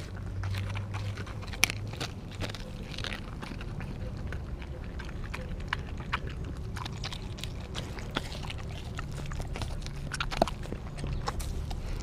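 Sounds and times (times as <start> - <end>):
dog chewing bones crunching: 0.0 - 12.0.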